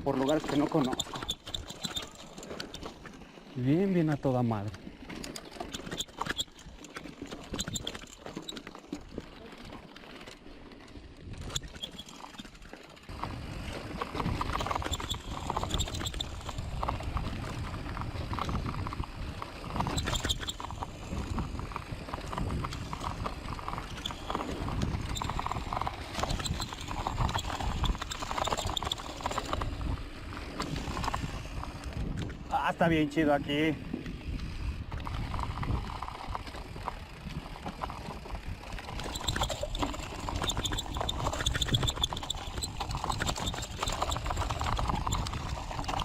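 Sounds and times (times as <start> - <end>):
mountain bike rattling on trail: 0.0 - 46.0.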